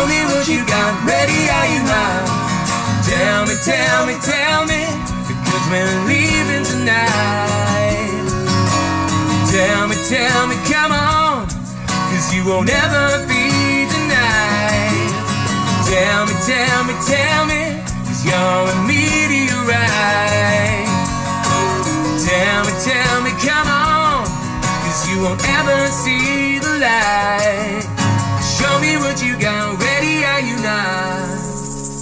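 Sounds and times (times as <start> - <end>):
acoustic guitars strumming: 0.0 - 32.0
man singing: 0.0 - 32.0.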